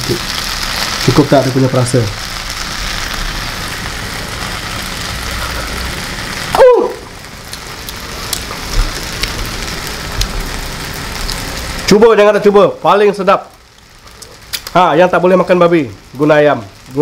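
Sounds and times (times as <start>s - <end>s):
fried rice sizzling in a wok: 0.0s - 17.0s.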